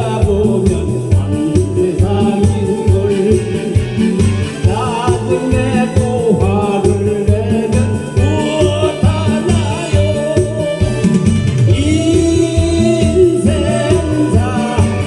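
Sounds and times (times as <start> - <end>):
person singing: 0.0 - 15.0
pulsing bass beat: 0.0 - 15.0.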